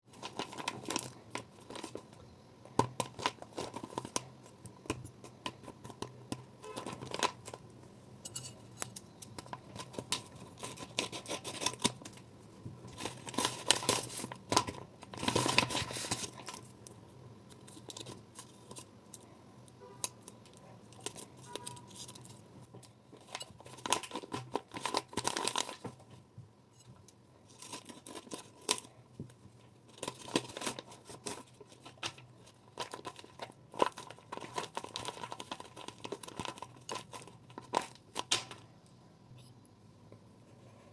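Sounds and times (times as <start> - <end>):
faint steady hum: 0.1 - 40.9.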